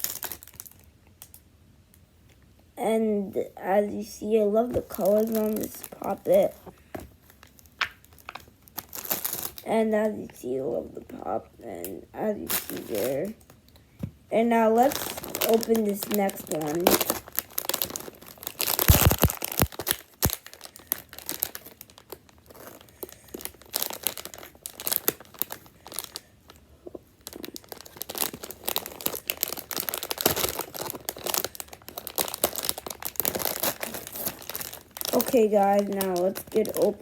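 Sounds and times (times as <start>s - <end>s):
packaging crinkling and tearing: 0.0s - 1.4s, 4.6s - 9.7s, 12.4s - 13.7s, 14.7s - 37.0s.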